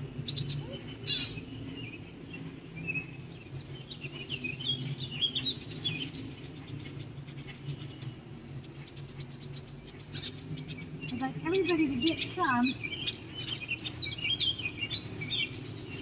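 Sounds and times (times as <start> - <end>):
songbird chirping: 0.0 - 16.0
steady low hum: 0.0 - 16.0.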